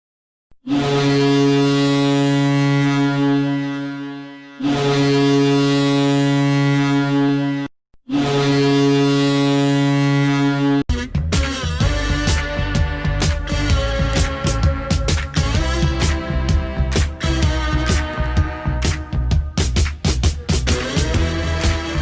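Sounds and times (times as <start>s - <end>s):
deep air horn blasts: 0.6s - 19.8s, 20.4s - 22.0s.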